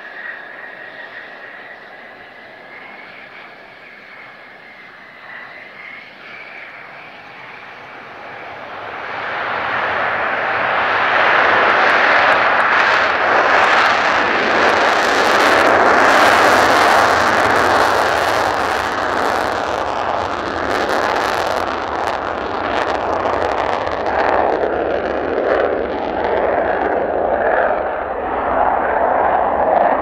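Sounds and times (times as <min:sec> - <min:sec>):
jet engine roaring with crackle: 0:00.0 - 0:30.0.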